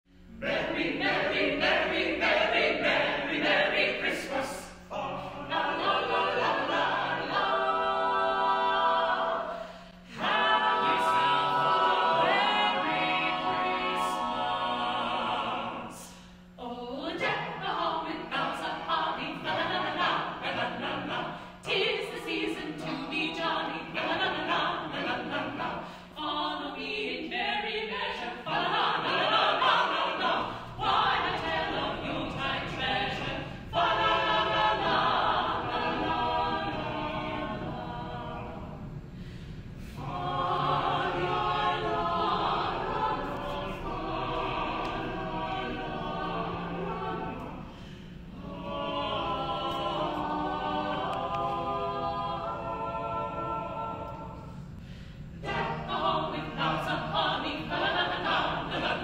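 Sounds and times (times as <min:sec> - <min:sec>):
vocal ensemble singing in harmony: 0:00.1 - 0:59.0.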